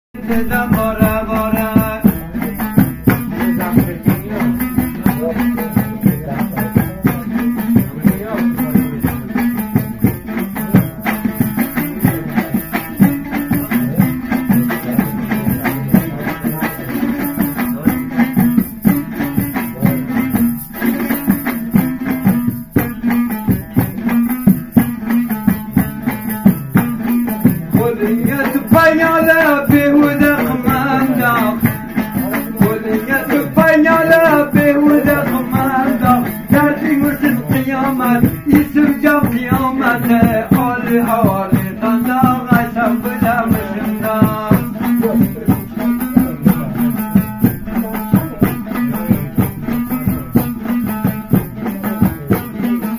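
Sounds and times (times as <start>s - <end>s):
lute strummed fast: 0.1s - 52.9s.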